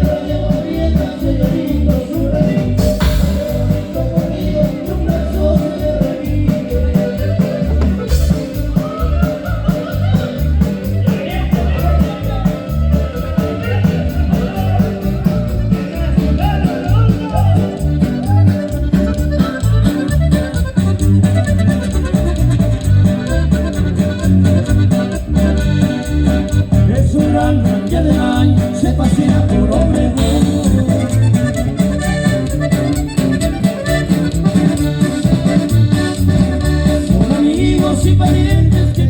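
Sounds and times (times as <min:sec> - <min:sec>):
band playing live: 0:00.0 - 0:39.0.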